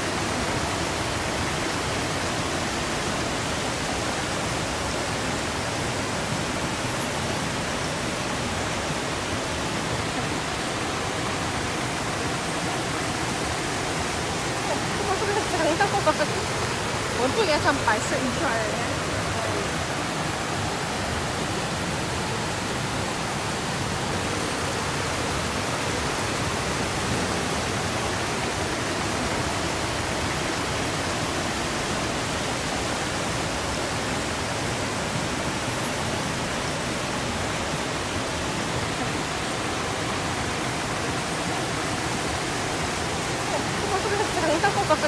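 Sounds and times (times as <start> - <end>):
water rushing over rocks: 0.0 - 45.0.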